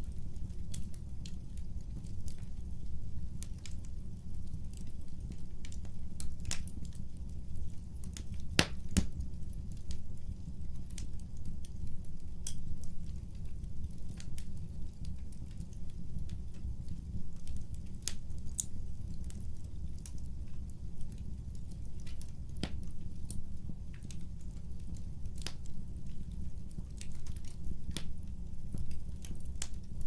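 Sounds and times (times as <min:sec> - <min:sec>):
fire popping: 0:00.0 - 0:30.0
low rumble of flames: 0:00.0 - 0:30.0
wood fire crackling: 0:00.0 - 0:30.0.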